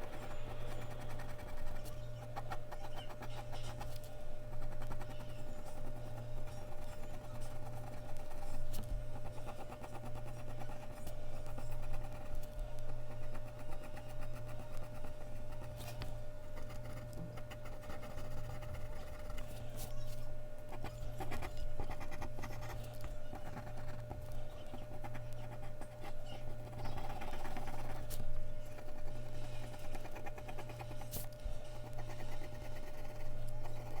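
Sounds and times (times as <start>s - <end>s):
pencil scratching on paper: 0.0s - 34.0s
steady low hum: 0.0s - 34.0s.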